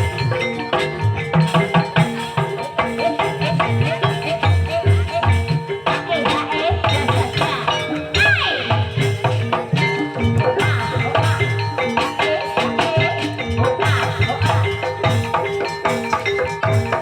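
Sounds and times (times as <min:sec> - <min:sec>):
hand drum rhythm: 0:00.0 - 0:17.0
mallet-struck pitched percussion: 0:00.0 - 0:17.0.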